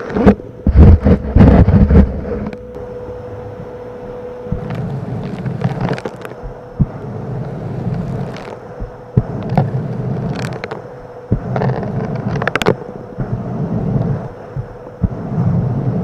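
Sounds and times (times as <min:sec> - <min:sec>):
vacuum cleaner humming: 0:00.0 - 0:16.0.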